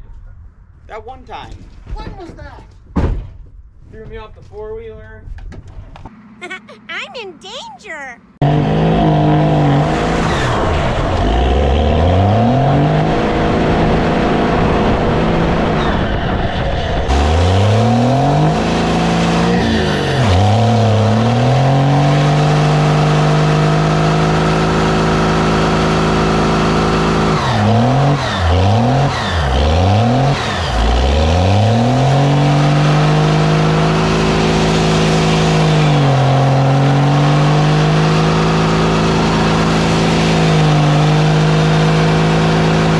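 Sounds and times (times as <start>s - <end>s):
vehicle engine revving: 8.2s - 42.9s.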